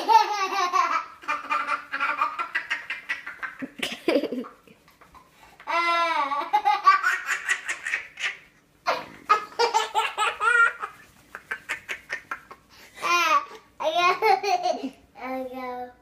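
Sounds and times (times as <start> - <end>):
young child laughing: 0.0 - 15.0.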